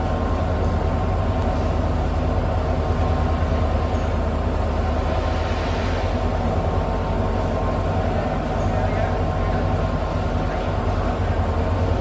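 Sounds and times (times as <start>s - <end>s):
diesel locomotive engine drone: 0.0s - 12.0s
high engine whine: 0.0s - 12.0s.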